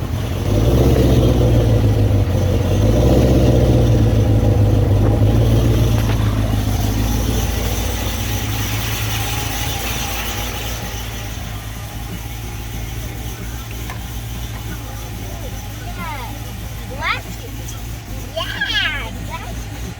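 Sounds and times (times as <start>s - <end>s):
deep car exhaust idling: 0.0s - 19.9s.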